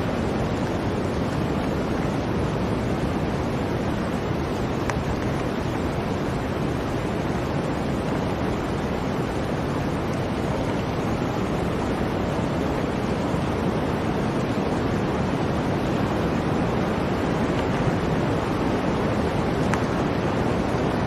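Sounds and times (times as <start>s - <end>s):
blizzard wind blowing: 0.0s - 21.0s.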